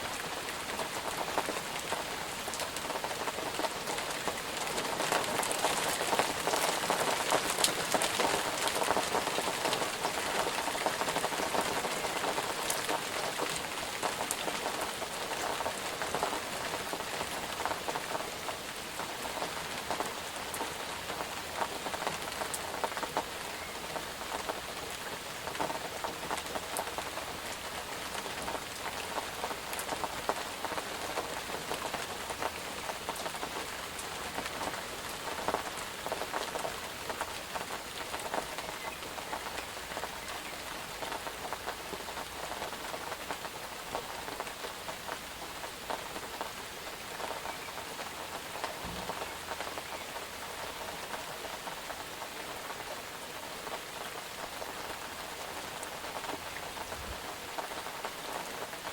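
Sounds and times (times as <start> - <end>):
rain pattering on a surface: 0.0 - 58.9.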